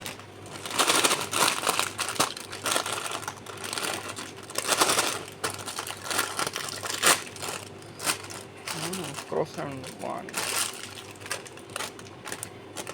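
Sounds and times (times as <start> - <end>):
plastic wrapper crinkling: 0.0 - 12.9.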